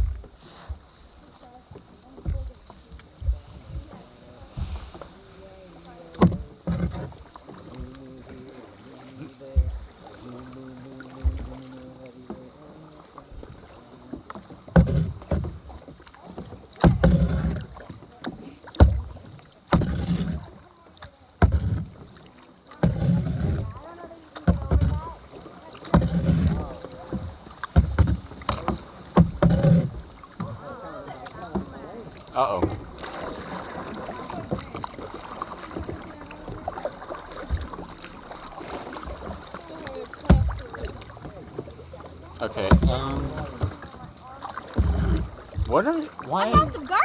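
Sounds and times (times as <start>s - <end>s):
kayak paddle splashing water: 0.0s - 47.0s.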